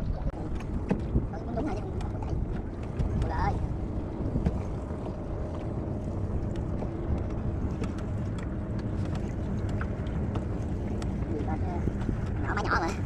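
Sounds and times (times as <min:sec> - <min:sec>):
small boat engine rumbling: 0:00.0 - 0:13.0
water sounds: 0:00.0 - 0:13.0
wind: 0:00.0 - 0:13.0.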